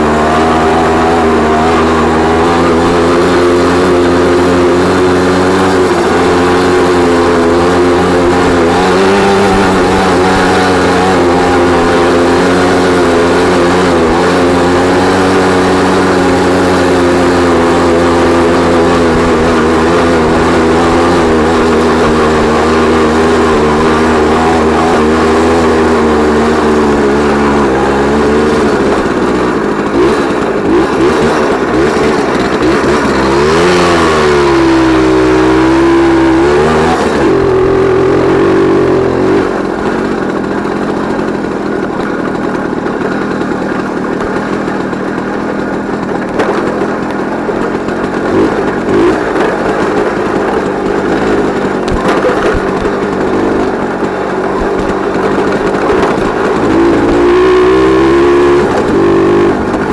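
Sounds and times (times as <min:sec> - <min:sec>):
two-stroke moped engine running: 0:00.0 - 0:59.9.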